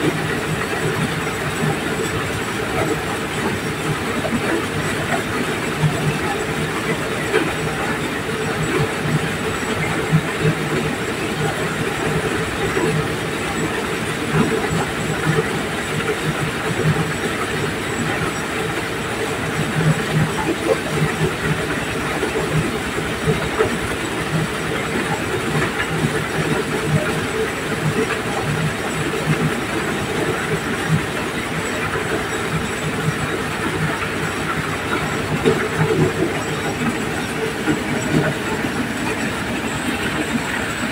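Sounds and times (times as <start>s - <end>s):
corn sheller machine drone: 0.0s - 40.9s.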